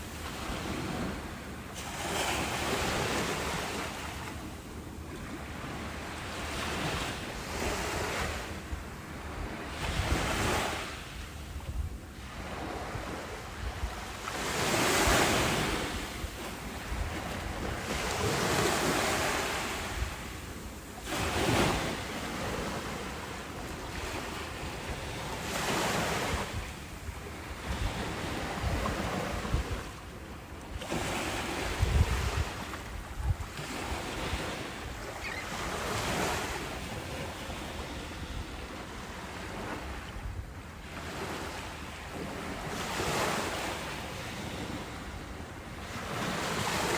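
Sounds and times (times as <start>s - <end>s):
ocean waves breaking: 0.0s - 40.2s, 40.8s - 46.9s.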